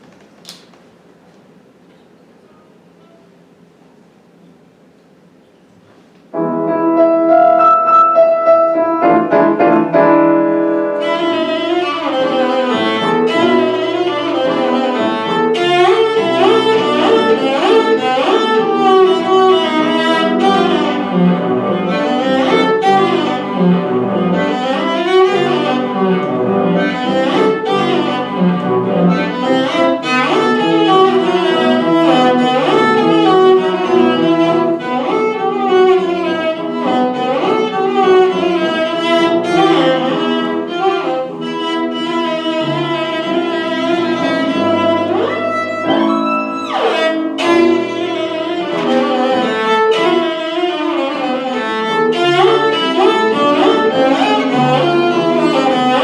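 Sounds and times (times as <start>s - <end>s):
classical strings and piano: 6.3s - 56.0s.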